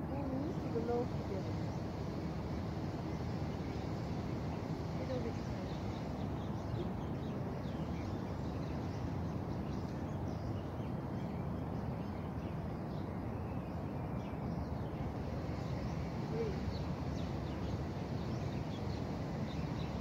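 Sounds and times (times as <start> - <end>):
steady low background noise: 0.0 - 20.0
faint bird chirps: 0.2 - 20.0.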